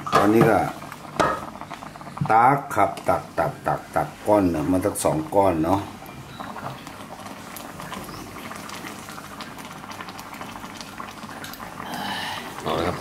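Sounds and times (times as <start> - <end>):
soup bubbling in a pan: 0.0 - 13.0.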